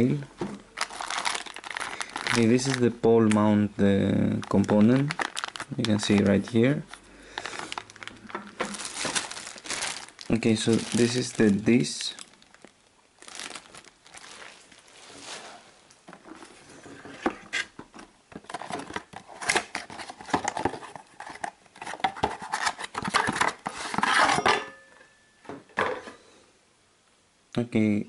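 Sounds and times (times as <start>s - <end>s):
plastic wrap rustling: 0.0s - 17.8s, 18.4s - 24.4s.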